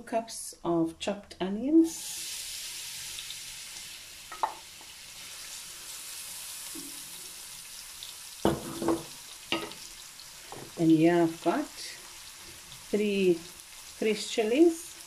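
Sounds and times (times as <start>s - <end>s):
onions sizzling in hot oil: 1.8s - 15.0s.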